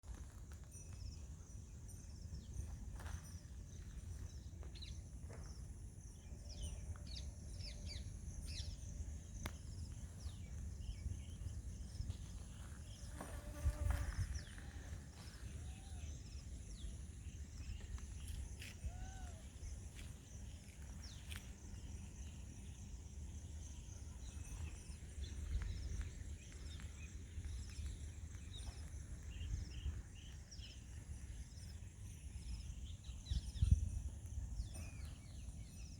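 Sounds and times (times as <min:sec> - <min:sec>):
high insect drone: 0:00.2 - 0:35.9.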